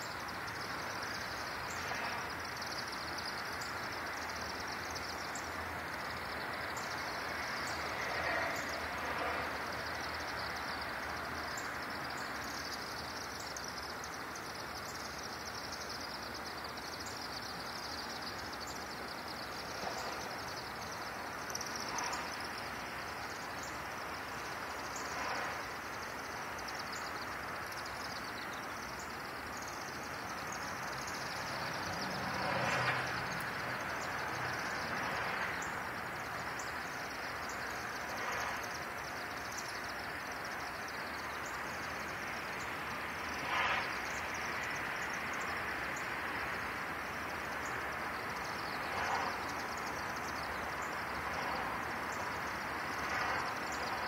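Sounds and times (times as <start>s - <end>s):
swifts chittering: 0.0s - 54.0s
traffic noise: 0.0s - 54.0s.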